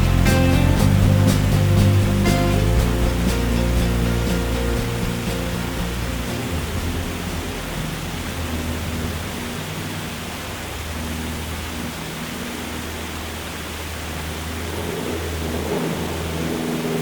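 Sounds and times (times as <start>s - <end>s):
propeller engines droning: 0.0s - 17.0s.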